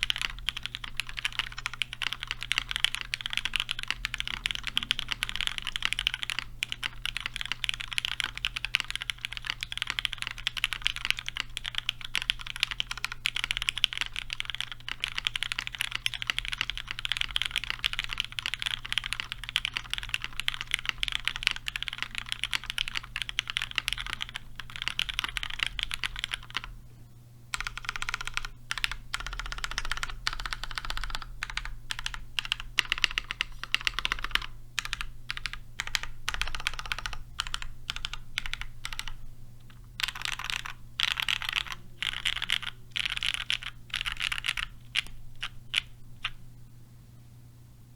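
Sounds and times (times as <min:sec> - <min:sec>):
fast keyboard typing: 0:00.0 - 0:26.7, 0:27.6 - 0:46.4.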